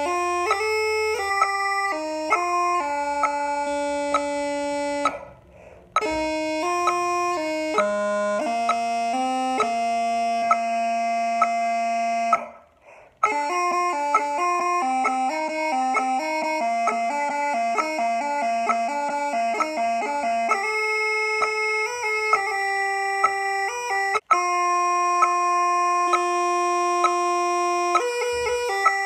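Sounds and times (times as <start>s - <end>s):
bagpipes playing a tune: 0.0s - 12.5s, 13.2s - 29.0s.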